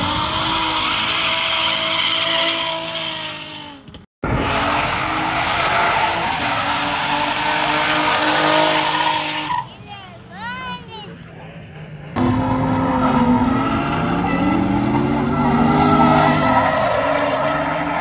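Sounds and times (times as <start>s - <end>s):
car engines revving high: 0.0s - 9.8s, 11.1s - 18.0s.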